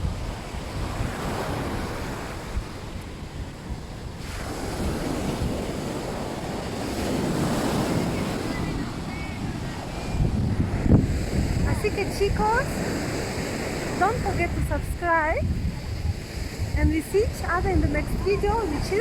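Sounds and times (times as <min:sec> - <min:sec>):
sea waves breaking: 0:00.0 - 0:19.0
wind buffeting microphone: 0:00.0 - 0:19.0.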